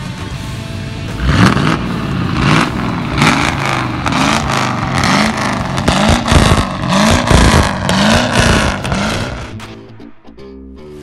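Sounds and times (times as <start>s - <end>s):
car engine revving: 0.6s - 9.7s.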